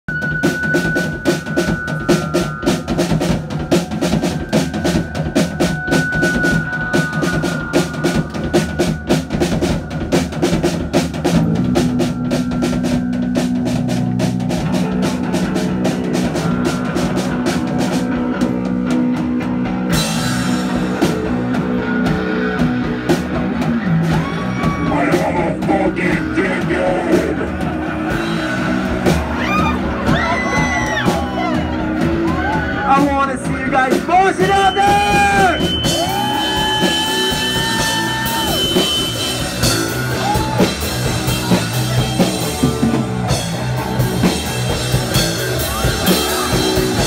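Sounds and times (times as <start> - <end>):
electric guitar and bass notes: 0.1 - 47.0
fast drum-kit beat: 0.1 - 47.0.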